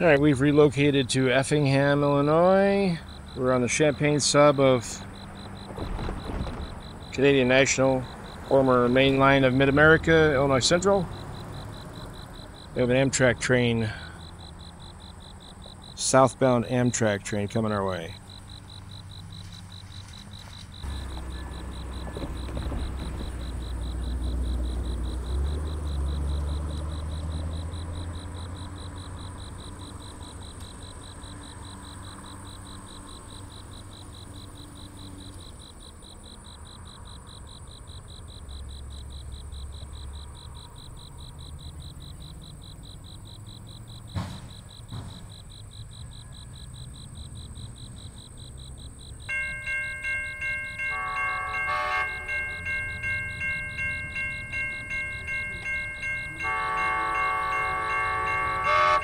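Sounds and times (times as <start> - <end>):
low engine rumble: 0.0 - 35.8, 37.6 - 59.0
crickets chirping: 0.0 - 59.0.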